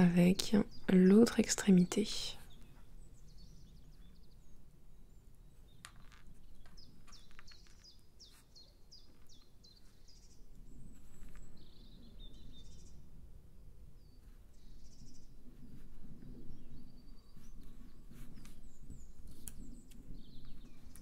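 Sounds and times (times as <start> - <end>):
bird chirping: 0.0 - 13.2, 14.0 - 21.0.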